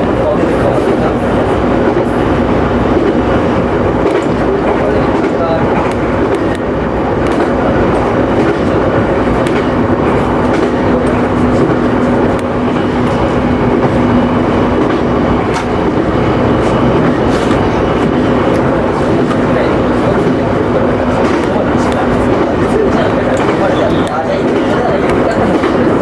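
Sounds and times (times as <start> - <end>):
train rolling noise with hum: 0.0 - 26.0.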